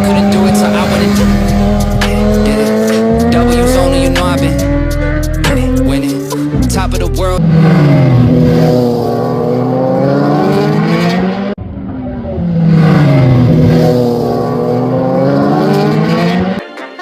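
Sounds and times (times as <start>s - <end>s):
vehicle engine revving: 0.0s - 16.6s.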